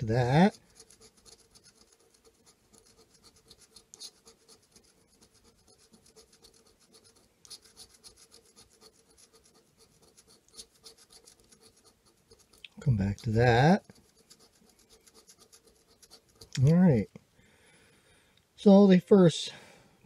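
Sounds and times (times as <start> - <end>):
scratching a lottery ticket: 0.0 - 17.2.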